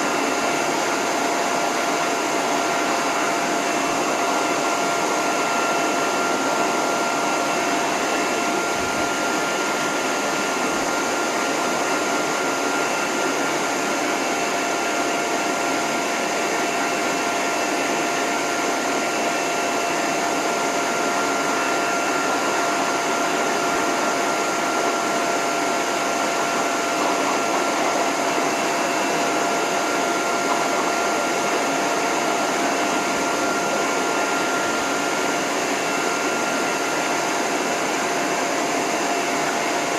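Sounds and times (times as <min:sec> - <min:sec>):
dryer motor whine: 0:00.0 - 0:39.9
hose dryer blowing air: 0:00.0 - 0:39.9.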